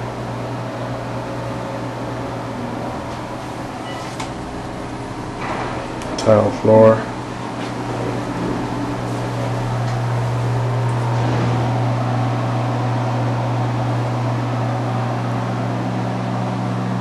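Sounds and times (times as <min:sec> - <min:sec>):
exhaust fan humming: 0:00.0 - 0:17.0.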